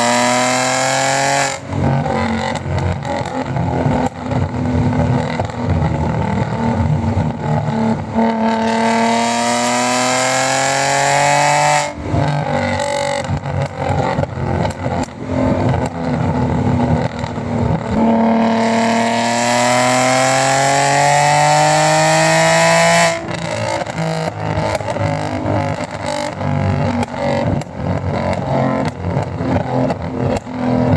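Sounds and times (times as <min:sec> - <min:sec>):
car exhaust revving: 0:00.0 - 0:30.9.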